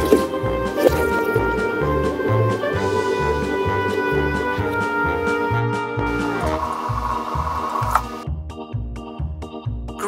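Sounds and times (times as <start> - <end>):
instrumental music with bass line: 0.0 - 10.0.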